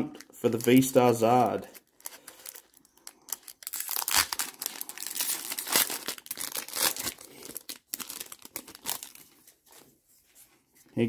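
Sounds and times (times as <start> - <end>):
foil wrapper crinkling and tearing: 0.2 - 9.4.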